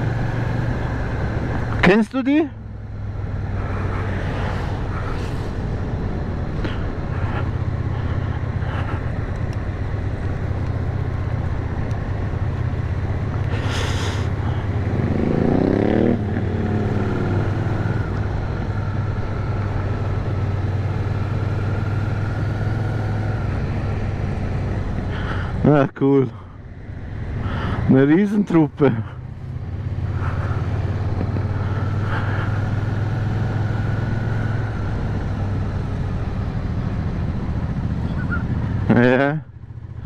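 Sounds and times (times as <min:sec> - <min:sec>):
motorcycle engine revving: 0:00.0 - 0:25.5, 0:27.1 - 0:40.0
motorcycle engine running: 0:00.0 - 0:25.8, 0:26.9 - 0:40.0
road and wind noise: 0:00.0 - 0:40.0.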